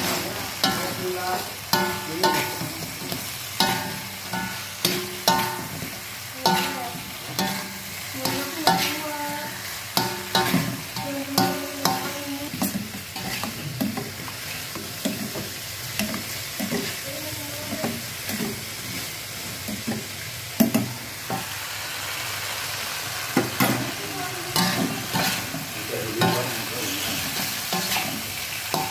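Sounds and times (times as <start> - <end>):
metal spatula scraping wok: 0.0 - 19.1, 23.5 - 28.9
frying sizzle: 0.0 - 28.9.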